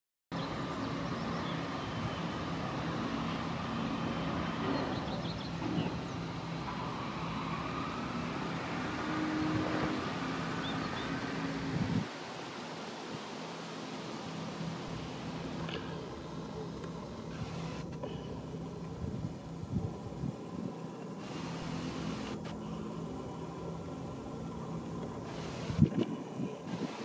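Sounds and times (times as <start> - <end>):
distant road traffic hum: 0.3 - 27.0.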